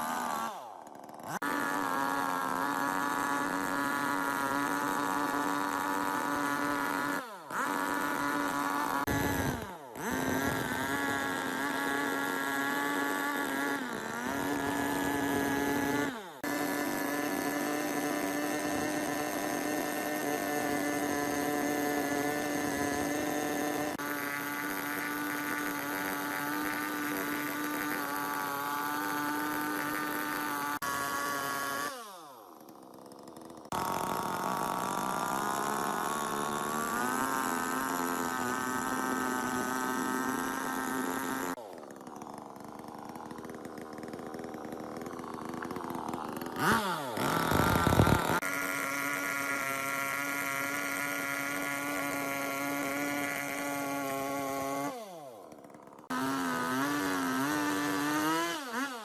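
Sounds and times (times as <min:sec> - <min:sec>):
power tool motor whining: 0:00.0 - 0:59.0.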